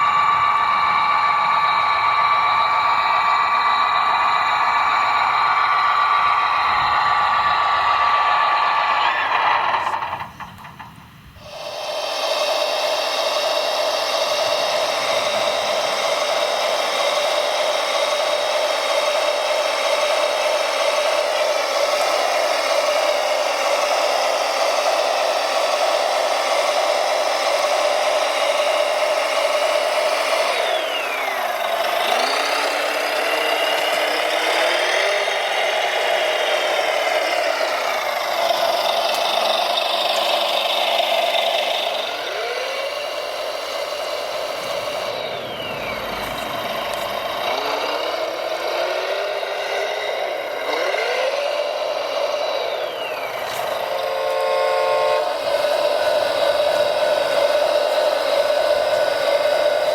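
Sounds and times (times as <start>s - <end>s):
electric motor and hydraulic whine: 0.0s - 59.9s.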